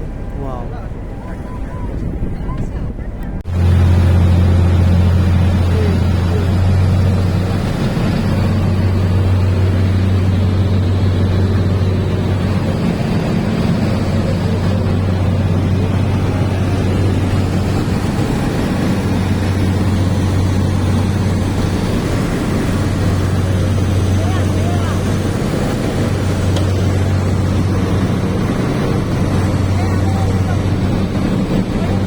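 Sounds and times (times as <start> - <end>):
speedboat engine droning: 0.0 - 32.0
wind and water rushing: 0.0 - 32.0.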